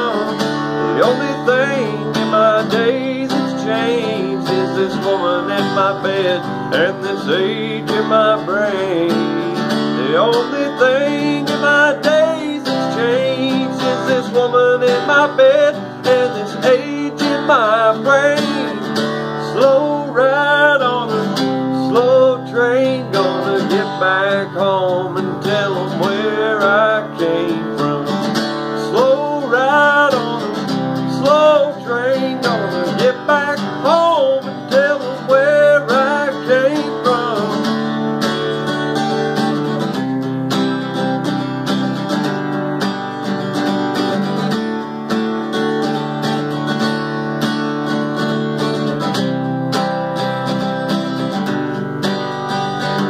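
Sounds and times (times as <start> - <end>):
acoustic guitar playing: 0.0 - 53.0.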